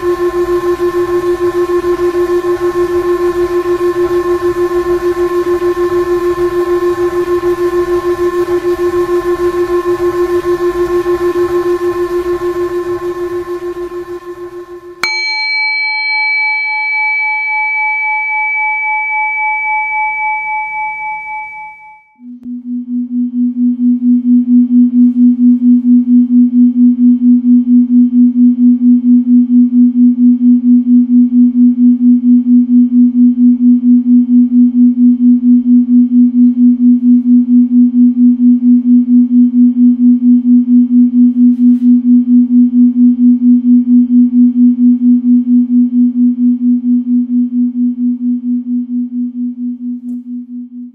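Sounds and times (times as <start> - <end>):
pulsing low electronic tone: 0.0 - 15.1, 18.2 - 50.9.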